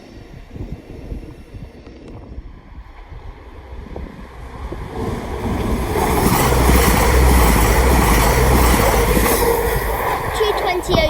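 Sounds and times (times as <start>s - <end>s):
passenger train passing at speed: 0.0s - 11.0s.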